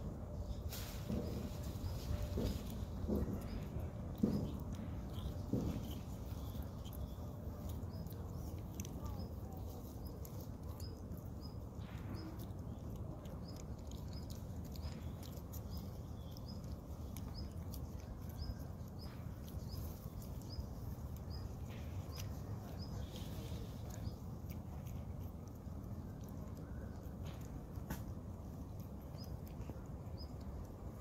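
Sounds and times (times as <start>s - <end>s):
monkey chewing wetly: 0.3s - 31.0s.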